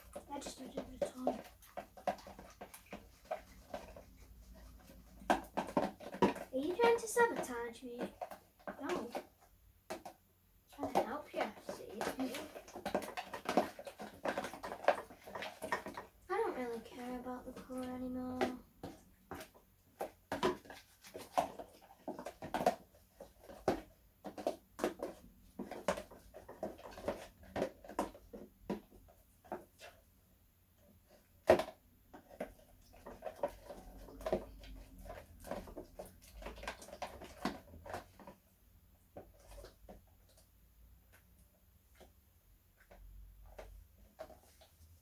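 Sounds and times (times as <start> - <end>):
slime being stirred: 0.0 - 45.0.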